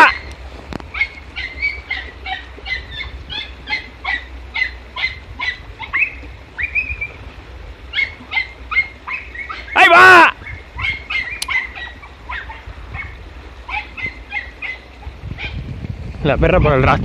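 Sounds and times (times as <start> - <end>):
puppies yelping: 0.0 - 0.3, 0.9 - 15.6.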